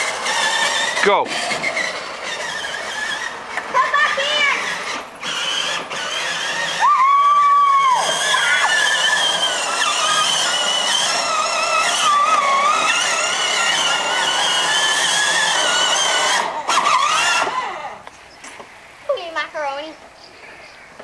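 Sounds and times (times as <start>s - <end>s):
toy truck electric motors whining: 0.0s - 18.1s.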